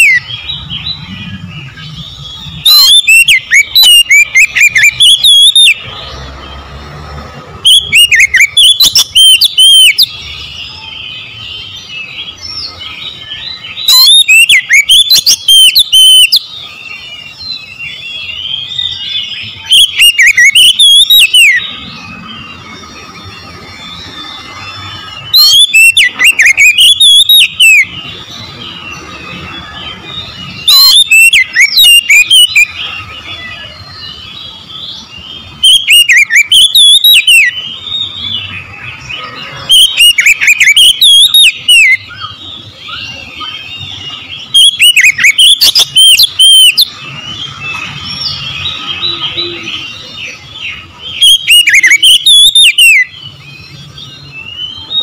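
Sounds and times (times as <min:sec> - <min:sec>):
bird singing rapid whistles: 0:00.0 - 0:06.7, 0:07.6 - 0:55.0
faint bird twittering: 0:00.0 - 0:06.8, 0:07.4 - 0:55.0.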